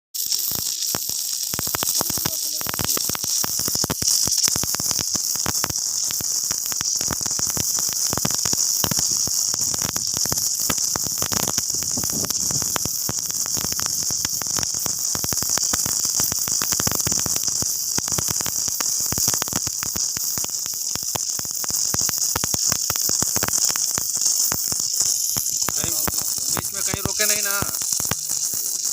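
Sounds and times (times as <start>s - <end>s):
arc welding hiss and crackle: 0.2s - 28.9s.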